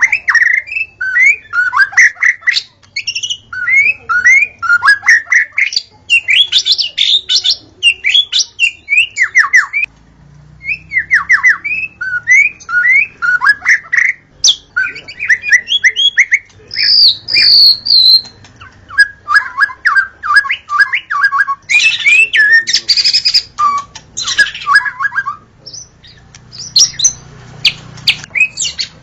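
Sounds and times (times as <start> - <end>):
bird singing: 0.0 - 9.9, 10.6 - 29.0.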